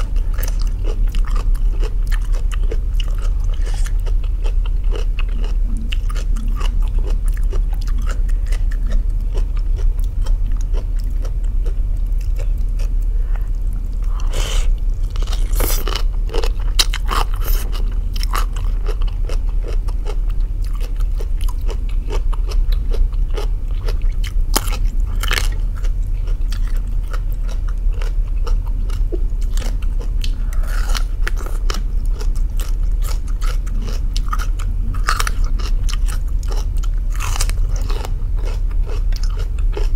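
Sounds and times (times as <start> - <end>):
constant low hum: 0.0 - 39.9
crunchy chewing of cabbage: 0.0 - 39.9.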